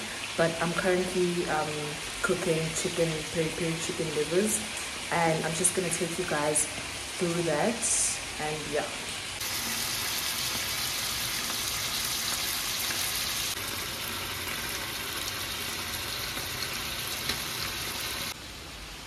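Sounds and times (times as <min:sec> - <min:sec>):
livers sizzling in a pan: 0:00.0 - 0:18.4.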